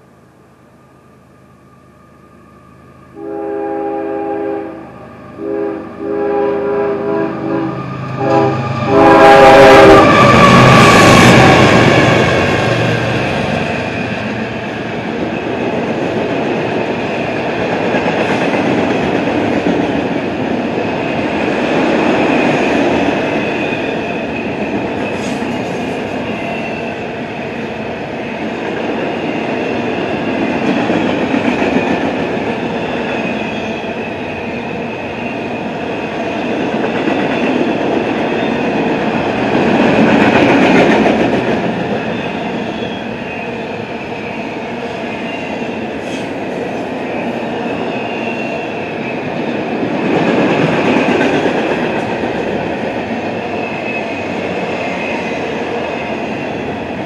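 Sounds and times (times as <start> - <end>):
freight train wheels rumbling on rail: 3.2 - 57.0.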